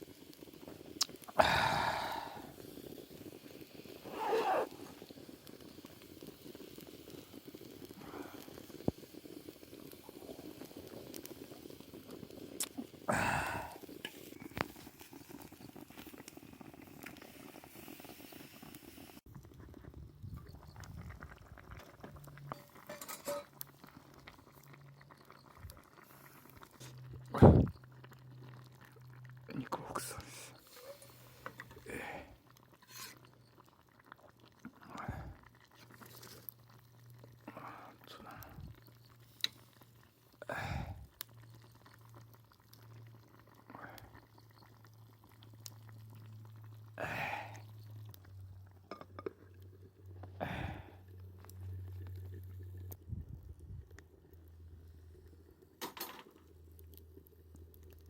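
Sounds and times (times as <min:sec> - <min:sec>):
food bubbling and sizzling: 0:00.0 - 0:58.0.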